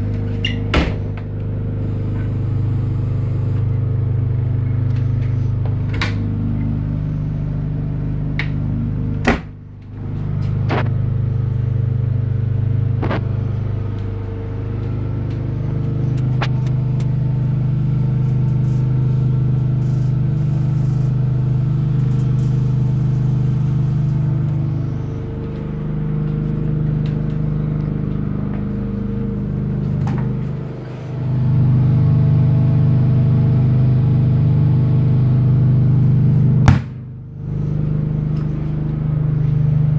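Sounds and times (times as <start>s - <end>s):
generator engine humming: 0.0s - 39.9s.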